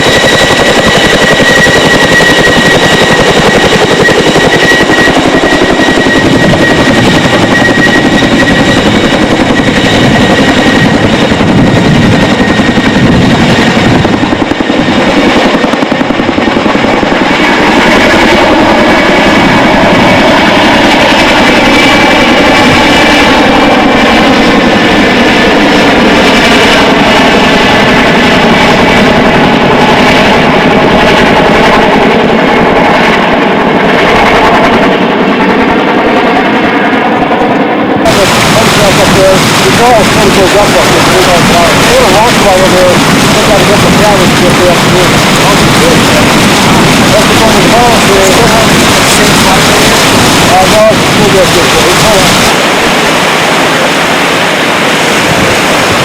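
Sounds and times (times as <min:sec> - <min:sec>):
helicopter rotors beating: 0:00.0 - 0:56.0
turbine engines whining: 0:00.0 - 0:56.0.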